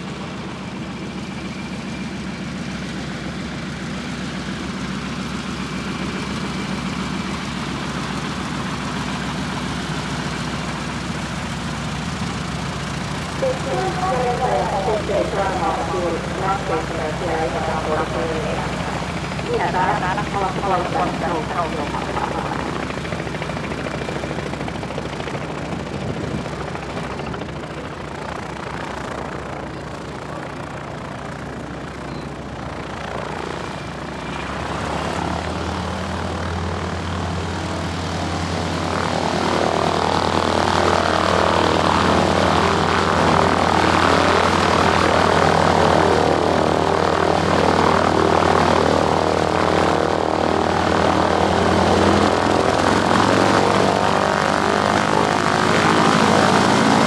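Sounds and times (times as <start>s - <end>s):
radial aircraft engine running: 0.0s - 57.0s.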